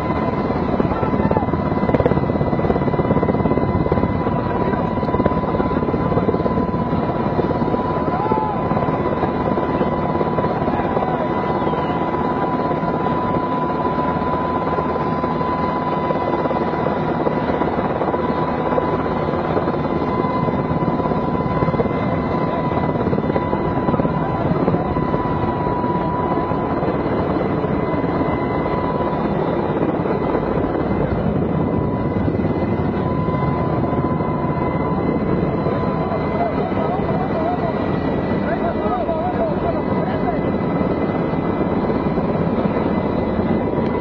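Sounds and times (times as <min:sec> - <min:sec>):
constant high whine: 0:00.0 - 0:44.0
helicopter engine and rotor: 0:00.0 - 0:44.0.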